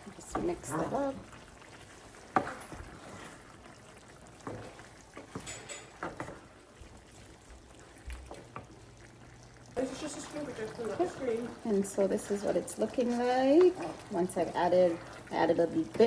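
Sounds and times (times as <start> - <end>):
wet bubbling in a pan: 0.0 - 16.0.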